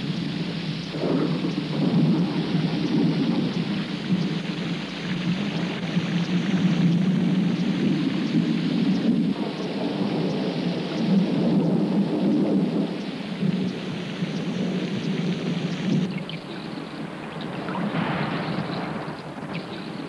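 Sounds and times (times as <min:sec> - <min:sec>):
heavy rain: 0:00.0 - 0:20.0
low thunder rumble: 0:00.0 - 0:20.0
rain falling on river: 0:00.0 - 0:20.0.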